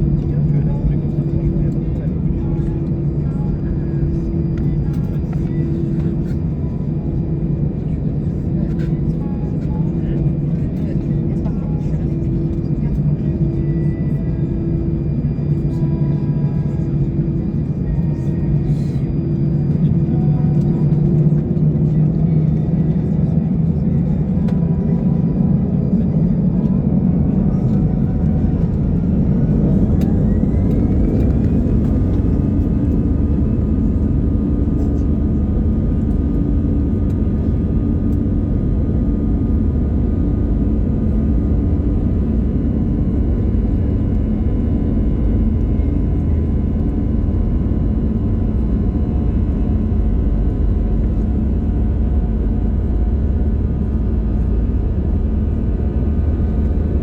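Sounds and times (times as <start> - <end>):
low rumble of takeoff roll: 0.0 - 57.0.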